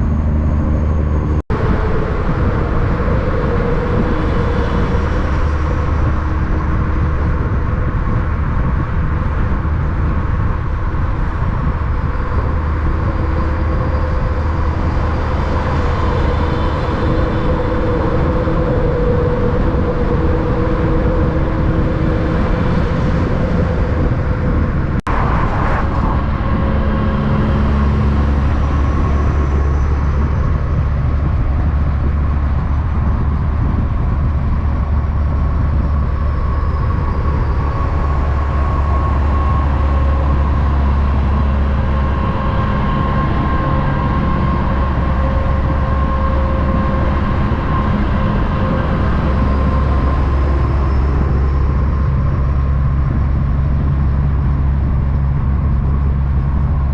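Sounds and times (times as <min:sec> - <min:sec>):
heavy vehicle engine: 0:00.0 - 0:56.9
road rumble: 0:00.0 - 0:56.9.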